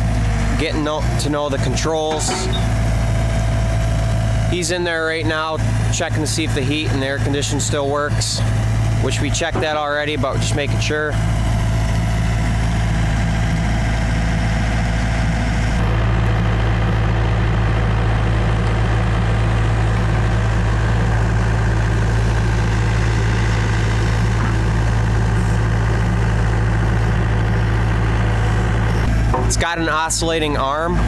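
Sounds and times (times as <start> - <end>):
excavator diesel engine idling: 0.0 - 31.0.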